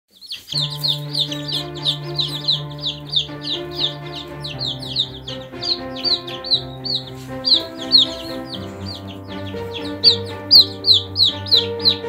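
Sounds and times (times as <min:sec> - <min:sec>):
ducklings peeping: 0:00.1 - 0:12.0
soft background music: 0:00.5 - 0:12.0.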